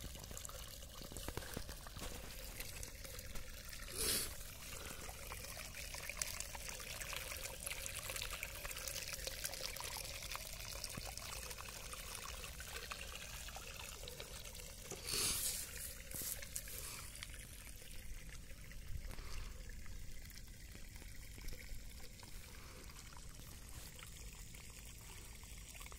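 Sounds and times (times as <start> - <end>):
water pouring from pipe: 0.0 - 25.9.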